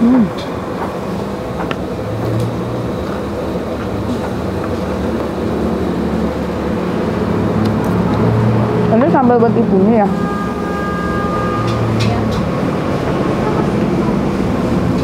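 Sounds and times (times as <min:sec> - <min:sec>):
street background rumble: 0:00.0 - 0:15.0.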